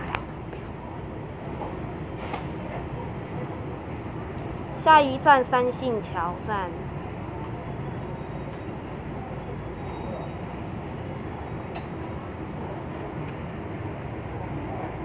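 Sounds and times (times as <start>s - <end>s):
train equipment hum: 0.0s - 15.0s.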